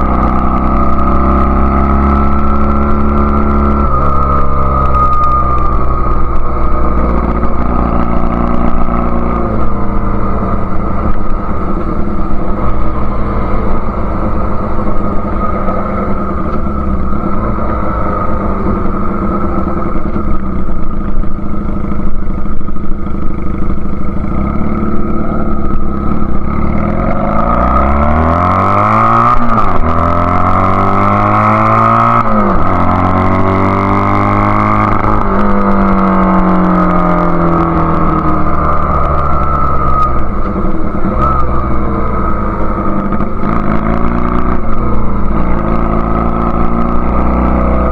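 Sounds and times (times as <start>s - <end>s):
motorcycle engine running and revving: 0.0s - 47.9s.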